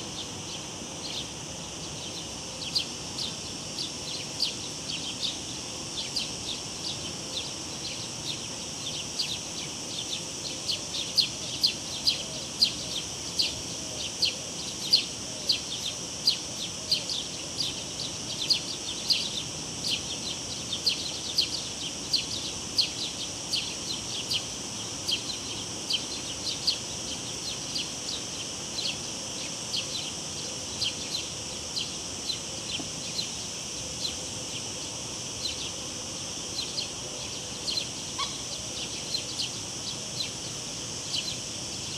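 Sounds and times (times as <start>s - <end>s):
cicadas droning: 0.0s - 41.9s.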